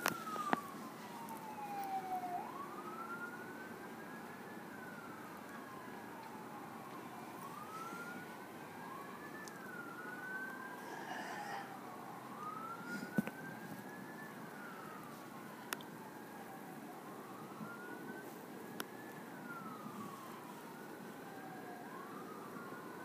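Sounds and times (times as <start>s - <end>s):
fire truck siren wailing: 0.0s - 23.0s.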